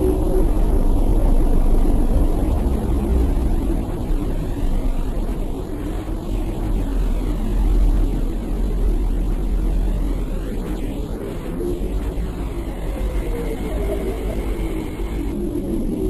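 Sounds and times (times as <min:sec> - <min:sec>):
deep rumbling drone: 0:00.0 - 0:16.0.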